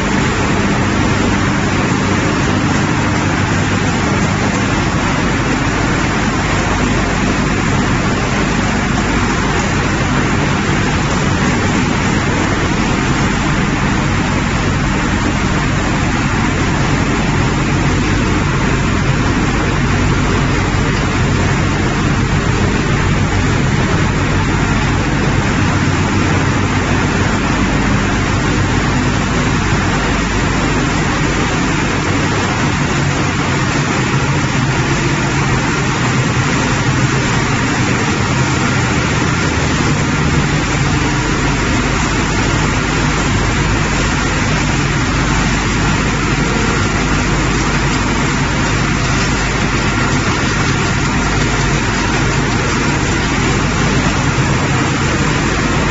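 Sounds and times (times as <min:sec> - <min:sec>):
machinery running: 0:00.0 - 0:55.9.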